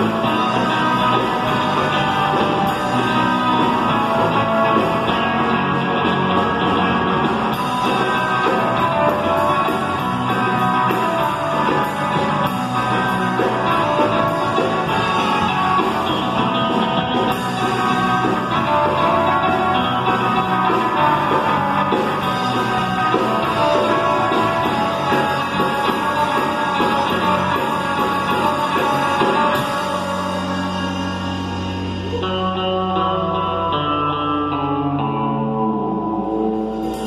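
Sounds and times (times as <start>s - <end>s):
surf rock band playing: 0.0s - 37.0s.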